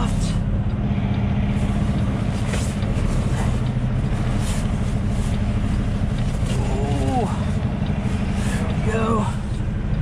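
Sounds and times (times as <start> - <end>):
truck diesel engine low drone: 0.0 - 10.0.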